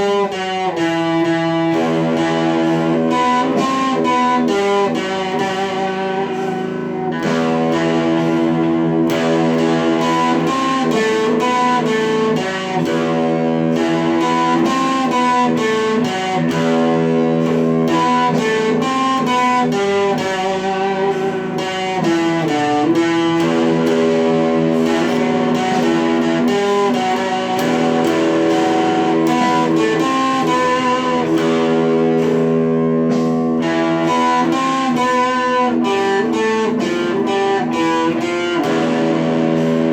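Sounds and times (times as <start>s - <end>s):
guitar plucked melody: 0.0s - 39.9s.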